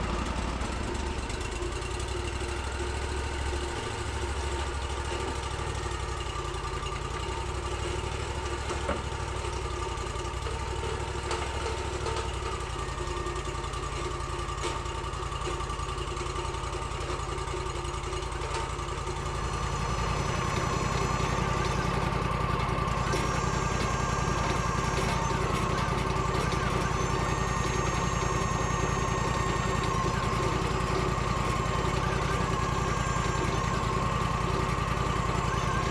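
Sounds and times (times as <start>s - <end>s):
sawmill engine running: 0.0s - 35.9s.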